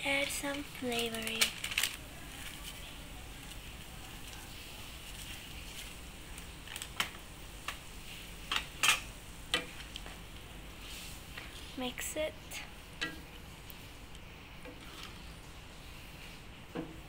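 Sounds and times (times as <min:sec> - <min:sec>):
pot bubbling: 0:02.3 - 0:17.0.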